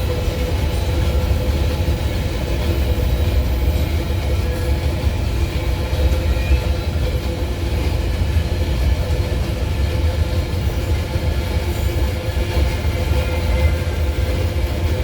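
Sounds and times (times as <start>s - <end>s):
train wagons rumbling: 0.0s - 15.0s.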